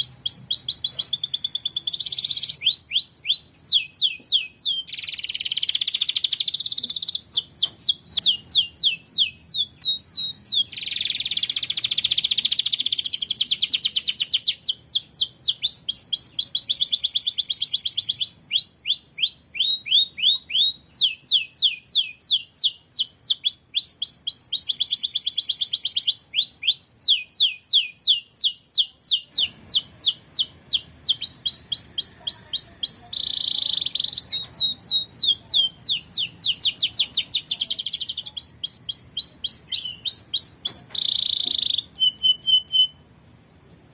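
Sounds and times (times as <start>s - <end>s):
canary singing trills: 0.0s - 43.1s.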